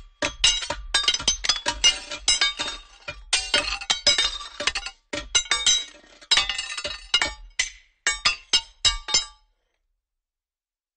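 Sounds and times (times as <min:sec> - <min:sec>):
metal clanking against rocks: 0:00.0 - 0:09.4.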